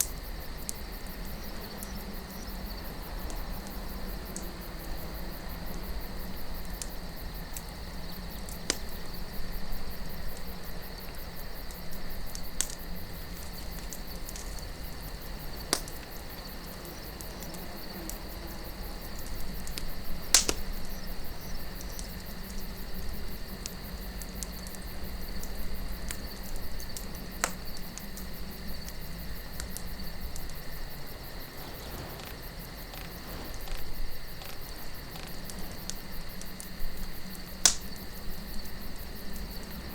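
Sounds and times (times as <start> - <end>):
campfire crackling: 0.0 - 39.9
soft wind: 0.0 - 39.9.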